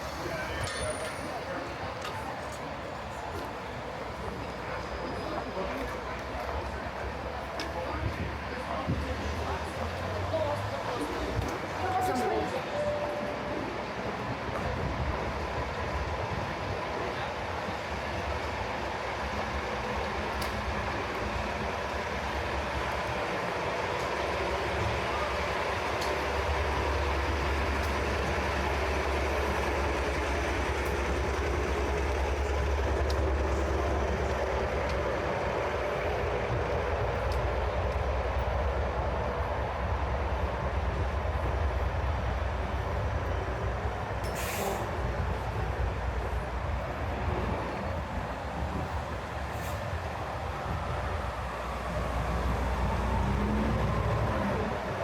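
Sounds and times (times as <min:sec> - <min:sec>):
low rumble of vehicles: 0:00.0 - 0:55.0.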